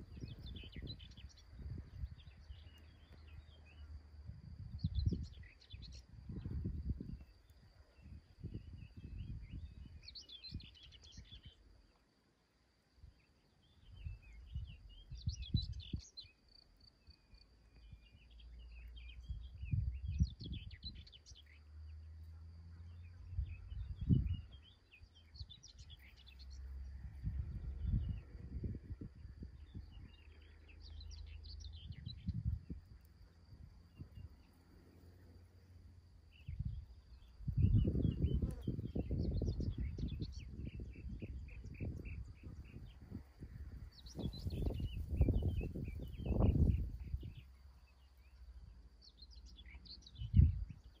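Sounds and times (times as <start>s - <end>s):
wind rumbling on microphone: 0.0s - 11.7s, 13.0s - 16.3s, 17.7s - 21.6s, 22.4s - 51.0s
songbirds twittering: 0.0s - 51.0s.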